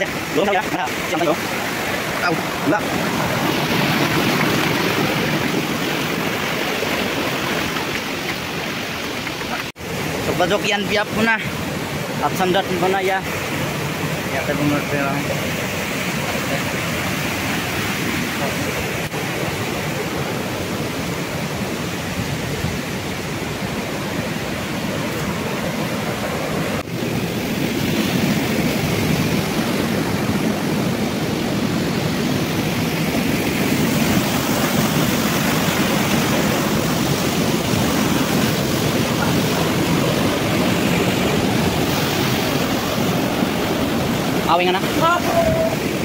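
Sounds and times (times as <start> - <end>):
waterfall and stream rushing: 0.0 - 46.0.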